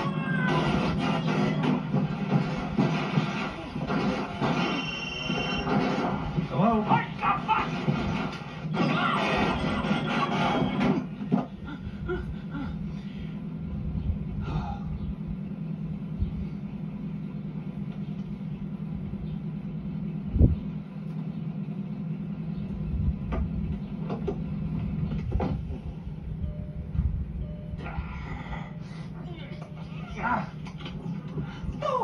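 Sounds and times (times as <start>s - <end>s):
cartoon car engine hum: 0.0s - 32.0s.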